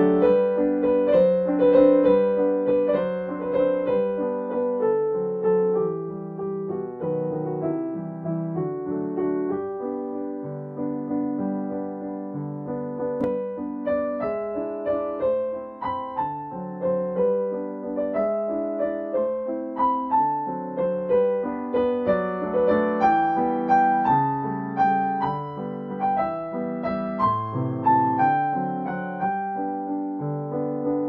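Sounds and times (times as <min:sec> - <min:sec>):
piano music: 0:00.0 - 0:31.0.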